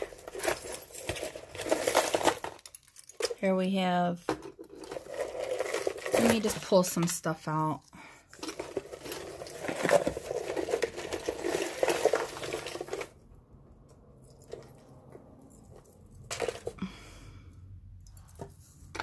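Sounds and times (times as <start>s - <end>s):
metal jewelry rustling and clinking: 0.0s - 13.3s, 13.9s - 17.2s, 17.9s - 19.0s.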